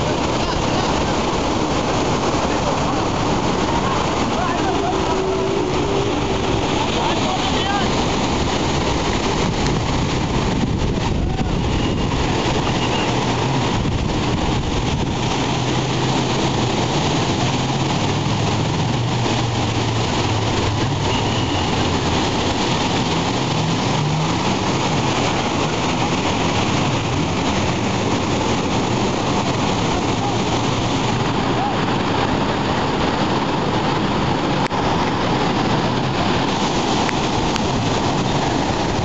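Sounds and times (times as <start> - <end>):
motorboat engine running: 0.0 - 39.0
surf breaking on beach: 0.0 - 39.0.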